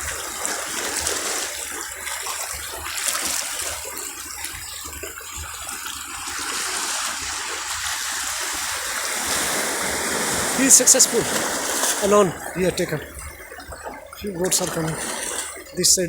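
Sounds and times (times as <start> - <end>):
sea water washing over rocks: 0.0 - 16.0.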